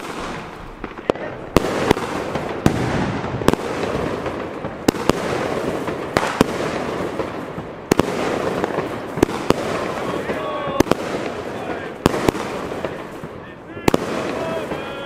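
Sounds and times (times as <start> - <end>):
firework bangs: 0.0 - 15.0
rushing hiss of fireworks: 0.0 - 15.0.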